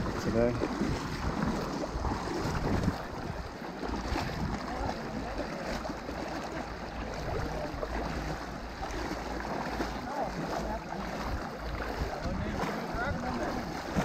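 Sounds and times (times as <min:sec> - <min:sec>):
people wading through river water: 0:00.0 - 0:14.0
water splashing and sloshing: 0:00.0 - 0:14.0.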